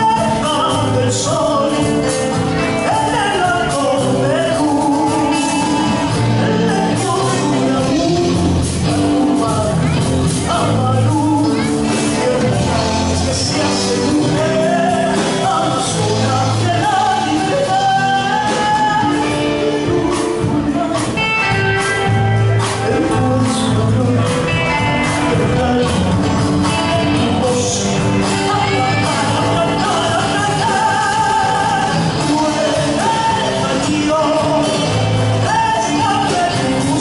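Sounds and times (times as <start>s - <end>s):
folk song with accompaniment: 0.0s - 37.0s.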